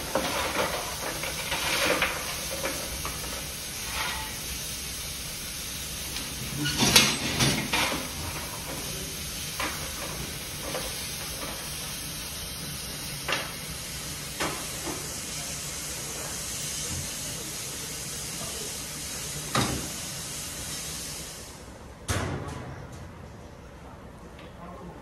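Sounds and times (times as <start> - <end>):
hiss of escaping steam: 0.0 - 21.7.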